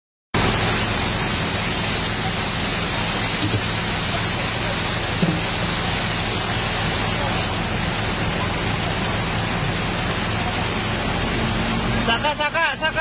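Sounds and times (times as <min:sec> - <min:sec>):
diesel engine humming: 0:00.4 - 0:13.0
floodwater: 0:00.4 - 0:13.0
heavy rain hissing: 0:00.4 - 0:13.0.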